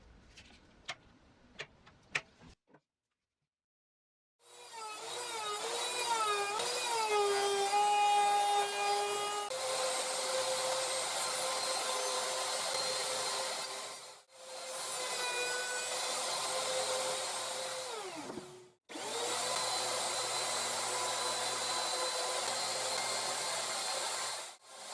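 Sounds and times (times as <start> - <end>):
power tool cutting wood: 4.4 - 24.9.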